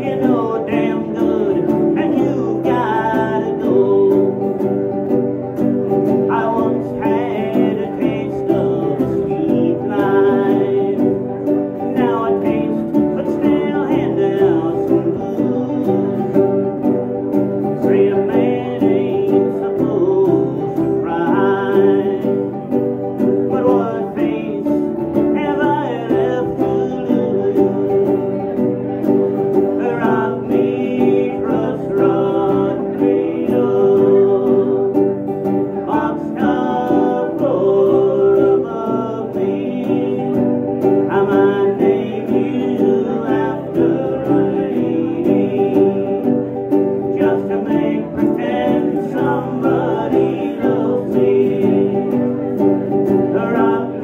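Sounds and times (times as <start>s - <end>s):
cigar box guitars: 0.0s - 54.0s
person singing: 0.0s - 54.0s.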